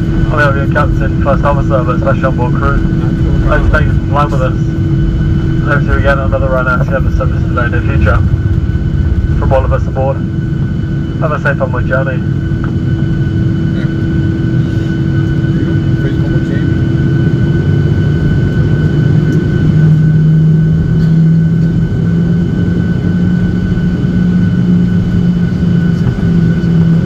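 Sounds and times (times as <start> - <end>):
aircraft cabin low hum: 0.0 - 27.0
high steady whine: 0.0 - 27.0.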